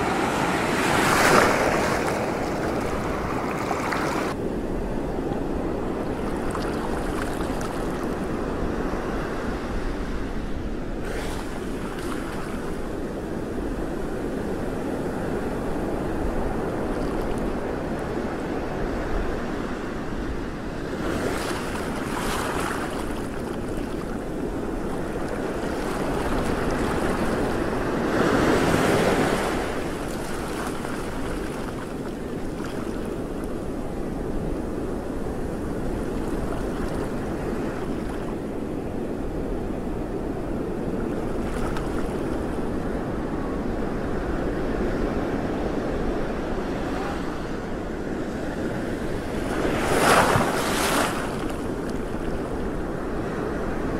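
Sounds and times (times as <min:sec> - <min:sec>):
sea waves washing: 0:00.0 - 0:53.9
wind on microphone: 0:00.0 - 0:53.9.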